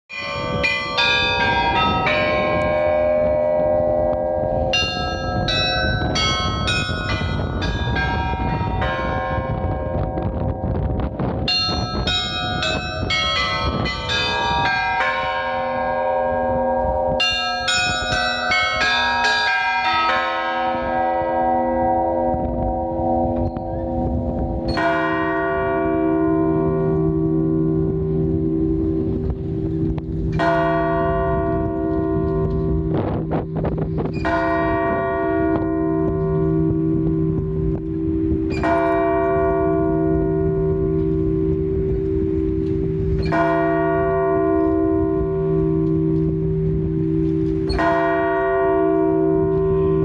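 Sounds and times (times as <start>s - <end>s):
large low bells ringing: 0.1s - 50.0s.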